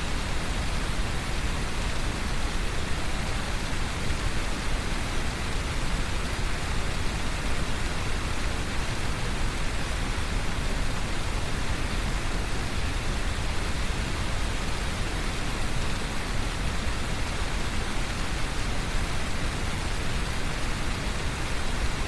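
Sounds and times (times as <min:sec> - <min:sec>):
brown noise: 0:00.0 - 0:22.0
heavy rain: 0:00.0 - 0:22.0.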